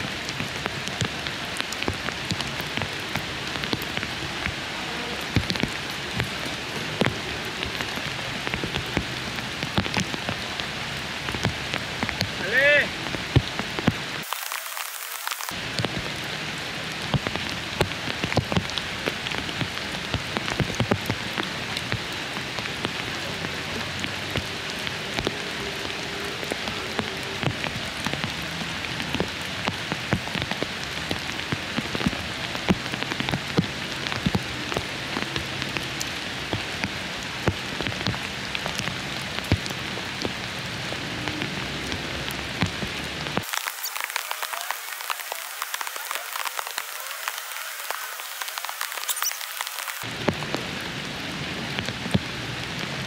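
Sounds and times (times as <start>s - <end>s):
raindrops ticking close by: 0.0s - 53.0s
steady rain hiss: 0.0s - 53.0s.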